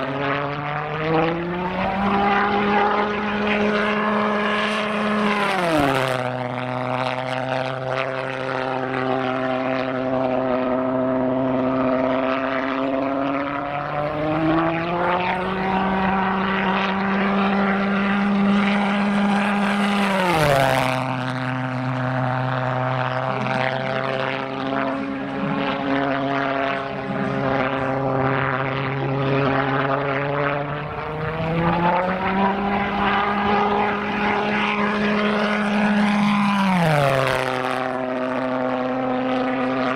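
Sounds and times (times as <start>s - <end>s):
pulse-jet engine buzzing: 0.0s - 39.9s.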